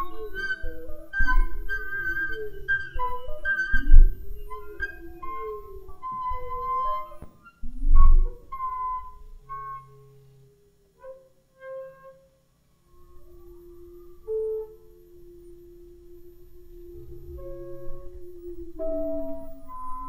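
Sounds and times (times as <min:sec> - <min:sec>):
whistling pure tones: 0:00.0 - 0:10.2, 0:12.8 - 0:20.0.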